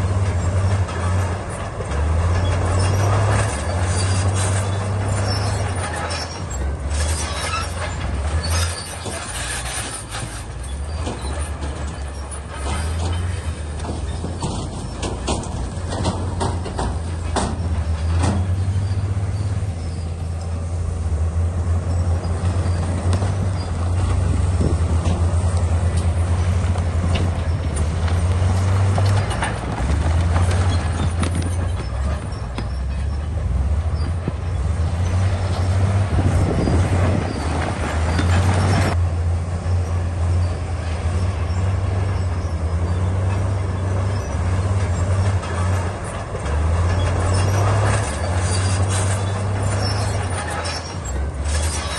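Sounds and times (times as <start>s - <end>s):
diesel engine running: 0.0s - 51.9s
rushing grinding noise: 0.0s - 51.9s
tracks clanking: 0.0s - 51.9s.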